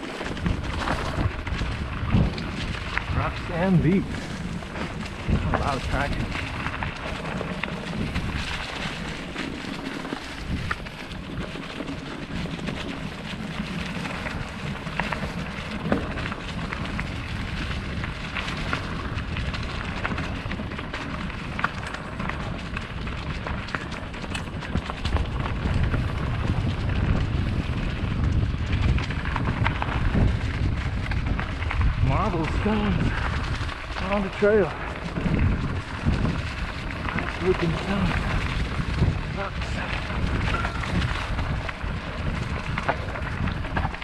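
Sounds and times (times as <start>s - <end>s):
bike clicks and rattles: 0.0s - 44.0s
bike tyres crunching on loose stones: 0.0s - 44.0s
low rumble: 0.1s - 11.8s, 13.8s - 44.0s.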